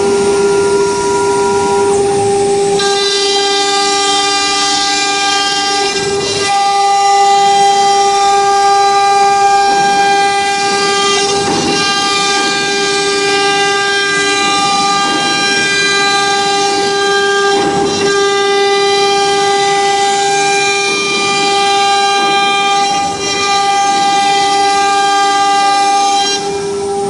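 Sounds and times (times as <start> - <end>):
router bit cutting wood: 0.0 - 27.0
router spindle high-pitched whine: 0.0 - 27.0.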